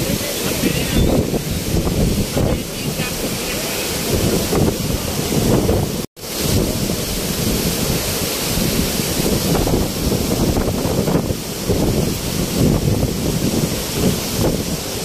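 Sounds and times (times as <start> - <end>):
waterfall rushing onto rocks: 0.0 - 15.0
wind buffeting microphone: 0.0 - 15.0.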